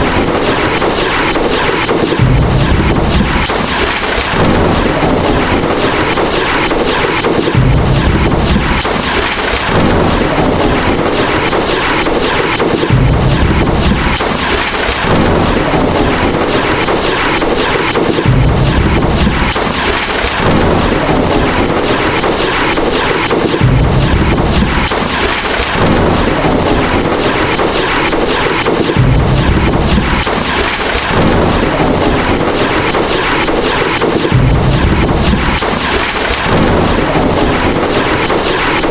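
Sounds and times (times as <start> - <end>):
dense crackle and hiss: 0.0 - 38.9
thunder rumbling: 0.0 - 38.9.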